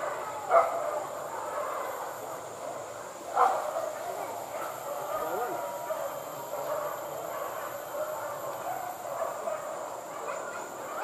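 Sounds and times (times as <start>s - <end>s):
distant dogs baying: 0.0s - 11.0s.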